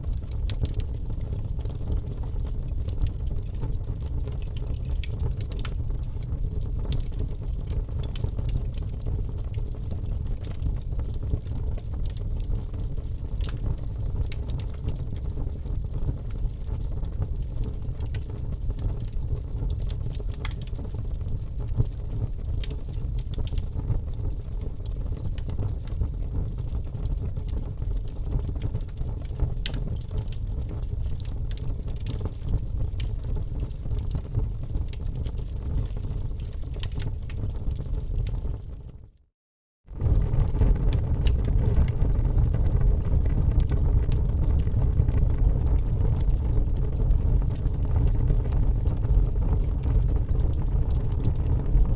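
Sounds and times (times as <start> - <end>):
wood fire crackling and popping: 0.0 - 38.9, 39.9 - 51.9.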